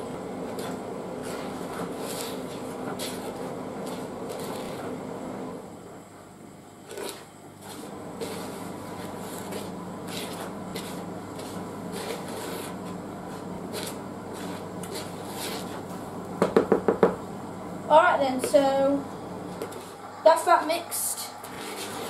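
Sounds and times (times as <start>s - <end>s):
wooden spoon stirring dry mix: 0.0s - 5.4s, 6.8s - 16.2s, 18.1s - 22.0s.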